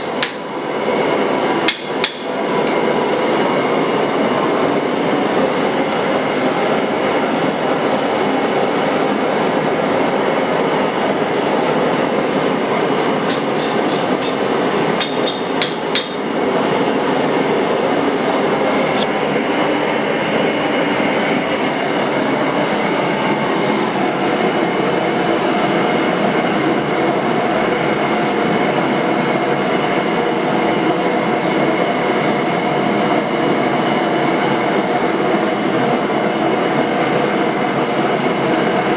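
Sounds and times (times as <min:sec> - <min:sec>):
loud machine noise: 0:00.0 - 0:38.9.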